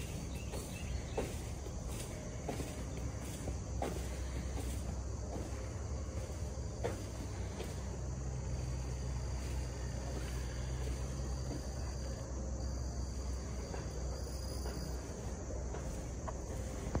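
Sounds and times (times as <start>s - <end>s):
crickets trilling: 0.0s - 17.0s
steady low rumble: 0.0s - 17.0s.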